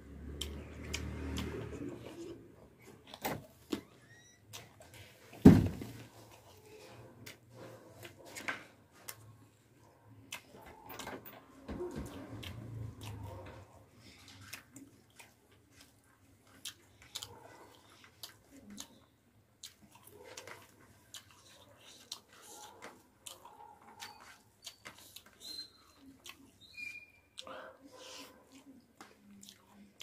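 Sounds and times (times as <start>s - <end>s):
person chewing food: 0.1s - 5.4s, 6.2s - 30.0s.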